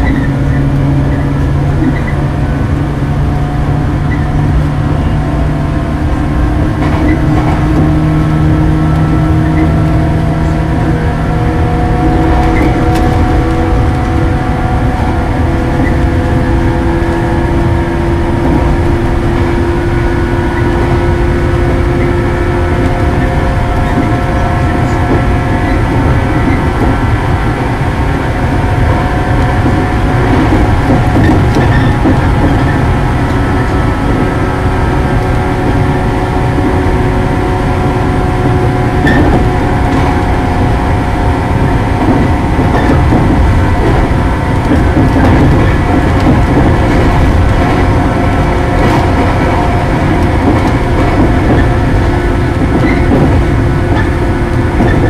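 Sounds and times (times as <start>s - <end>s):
train motor whining tones: 0.0s - 55.0s
wheels rumbling on track: 0.0s - 55.0s.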